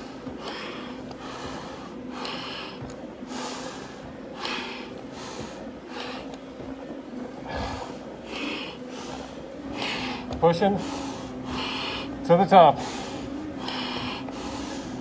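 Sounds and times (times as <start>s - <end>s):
faint steady hum: 0.0s - 15.0s
heavy breathing through face mask: 0.0s - 15.0s.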